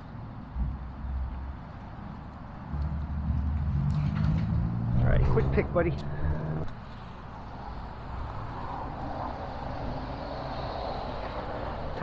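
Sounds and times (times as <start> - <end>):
highway traffic rushing: 0.0 - 12.0
low engine hum: 0.0 - 12.0.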